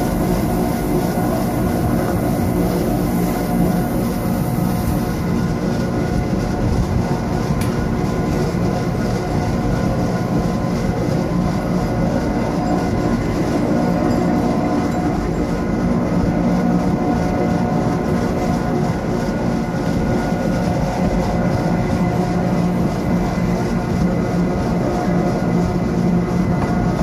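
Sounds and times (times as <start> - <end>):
electric train running: 0.0 - 27.0.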